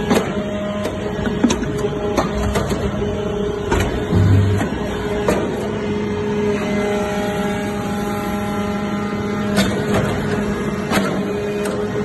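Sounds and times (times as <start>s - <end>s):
hydraulic press hum: 0.0s - 12.0s.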